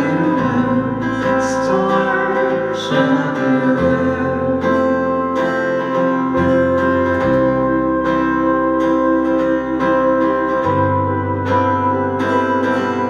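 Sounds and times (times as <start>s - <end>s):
acoustic guitar strumming: 0.0s - 13.0s
sustained bass and chord tones: 0.0s - 13.0s.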